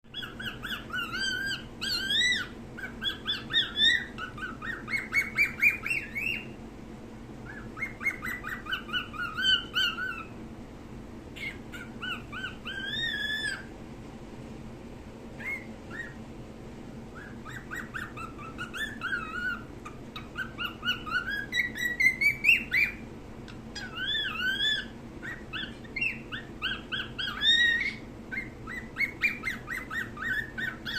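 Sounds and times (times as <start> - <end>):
cockatiel whistling: 0.1 - 6.6, 7.4 - 10.4, 11.4 - 13.7, 15.4 - 16.2, 17.1 - 23.0, 23.8 - 30.9.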